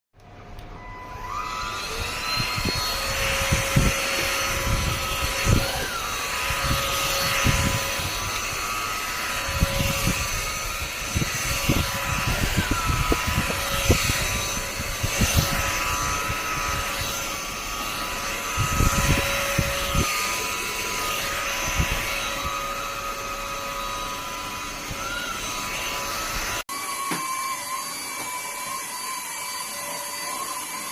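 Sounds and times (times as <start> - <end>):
vacuum motor whining: 0.2 - 30.9.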